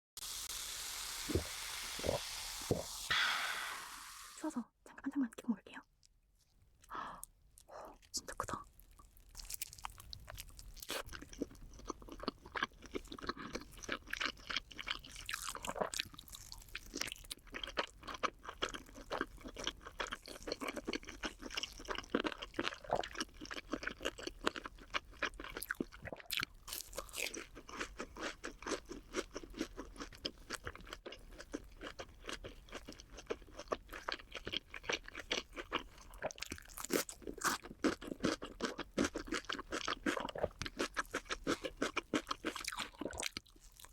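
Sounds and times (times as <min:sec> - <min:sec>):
chewing crunchy food: 0:07.5 - 0:43.9.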